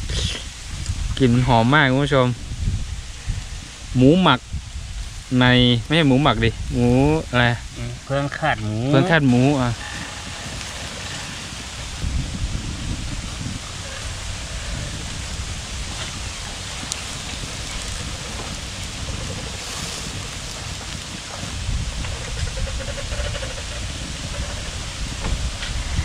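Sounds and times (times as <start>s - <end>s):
low rumble: 0.0s - 26.0s
sharp crackles: 3.1s - 26.0s.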